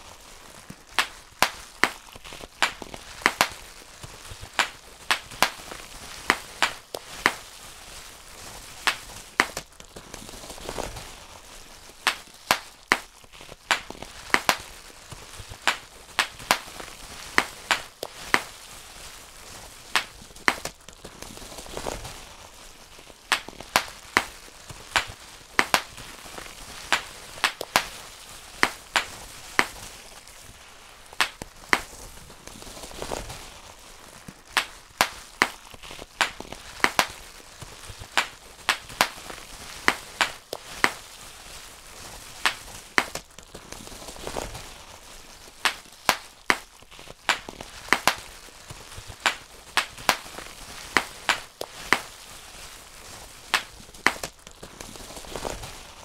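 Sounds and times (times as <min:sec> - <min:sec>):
bubble wrap popping: 0:00.0 - 0:56.0
plastic sheet rustling: 0:00.0 - 0:56.0.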